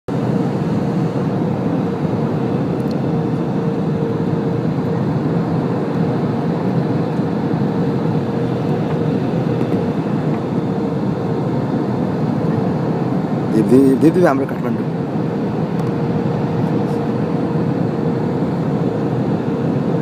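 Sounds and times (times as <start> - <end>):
airliner engines and airflow: 0.1 - 20.0.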